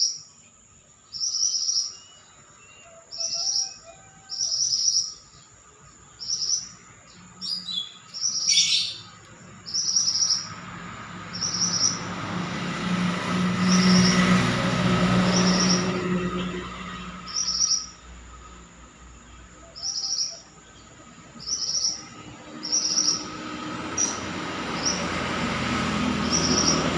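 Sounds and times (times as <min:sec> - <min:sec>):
songbird chirping: 0:00.0 - 0:26.9
passing vehicle hum: 0:01.4 - 0:26.9.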